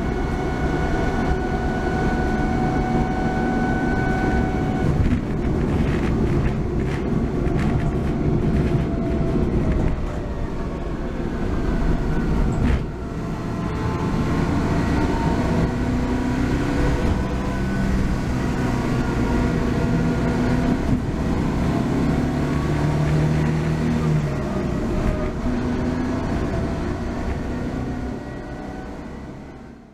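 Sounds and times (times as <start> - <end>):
thin drivetrain whine: 0.0 - 29.9
van engine and road rumble: 0.0 - 29.9.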